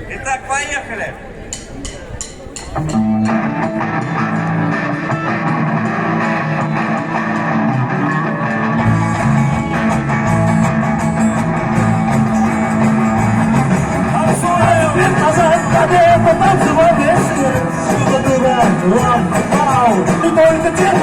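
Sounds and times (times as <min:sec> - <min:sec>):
electric guitar: 0:02.8 - 0:21.0
live rock band playing: 0:02.8 - 0:21.0.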